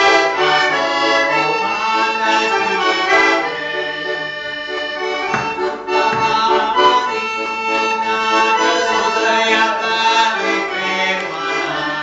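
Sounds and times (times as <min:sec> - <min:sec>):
button accordion playing a tune: 0:00.0 - 0:12.0.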